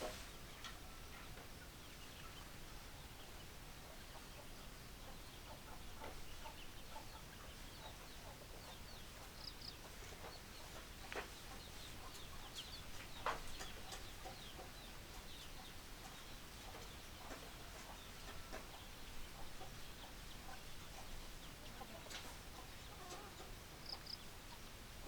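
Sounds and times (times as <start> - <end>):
chickens clucking: 0.0 - 24.8.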